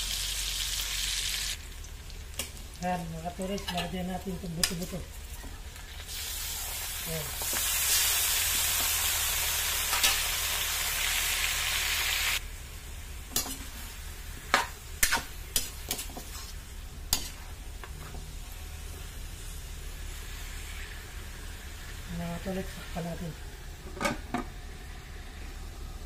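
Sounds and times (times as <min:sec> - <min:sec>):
meat sizzling in fat: 0:00.0 - 0:23.2.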